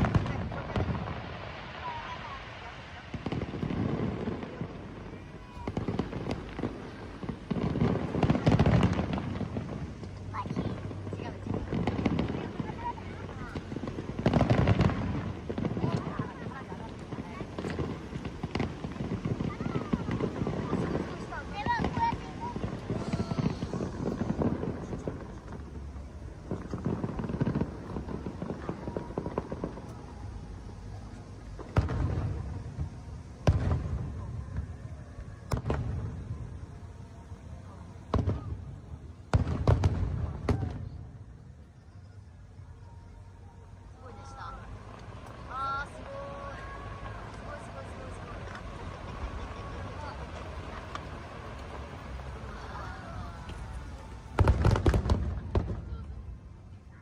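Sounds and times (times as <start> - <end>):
fireworks cracks and pops: 0.0 - 42.3, 43.2 - 57.0
fireworks deep booms: 0.0 - 57.0.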